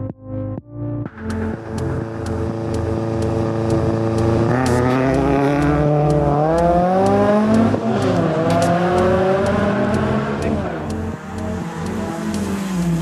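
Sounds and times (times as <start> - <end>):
rally car engine revving: 1.1 - 13.0.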